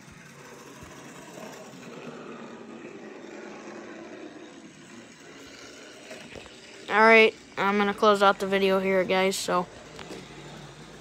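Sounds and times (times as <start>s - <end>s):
model train whirring on rails: 0.0s - 11.0s.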